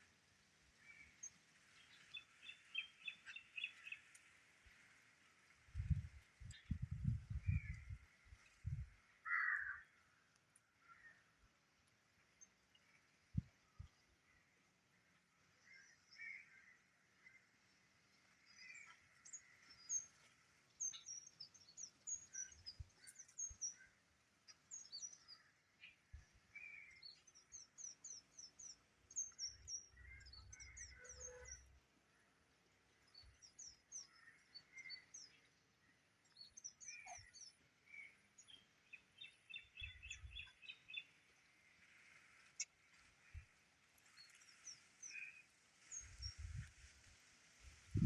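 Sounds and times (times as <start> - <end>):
small birds chirping: 0.7 - 48.0.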